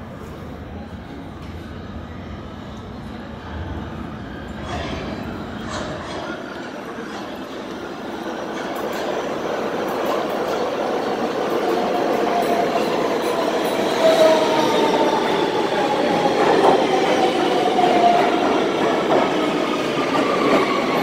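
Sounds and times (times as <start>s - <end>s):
subway train electric whine: 0.0s - 21.0s.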